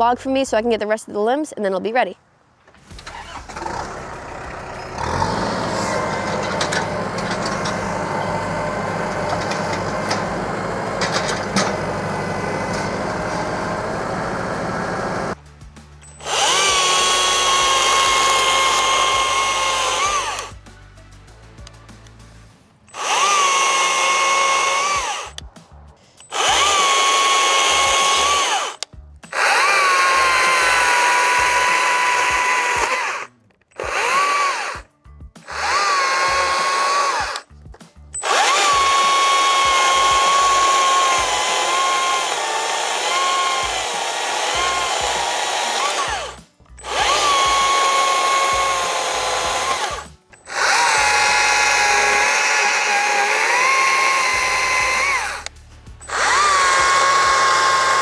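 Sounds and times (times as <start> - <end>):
electric chainsaw cutting log: 2.8 - 15.4, 16.1 - 20.6, 22.9 - 25.4, 26.3 - 37.5, 38.2 - 58.0.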